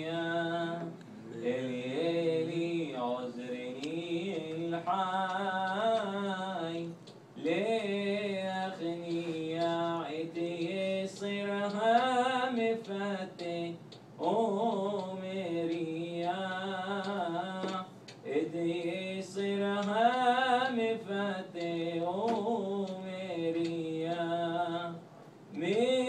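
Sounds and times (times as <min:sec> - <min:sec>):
person singing unaccompanied: 0:00.0 - 0:26.0.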